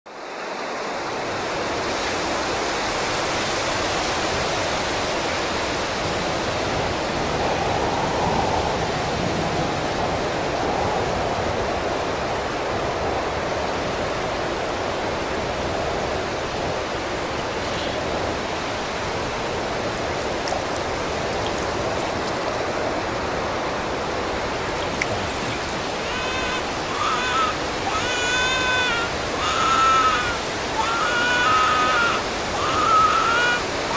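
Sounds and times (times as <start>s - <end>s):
strong wind on microphone: 1.3s - 33.9s.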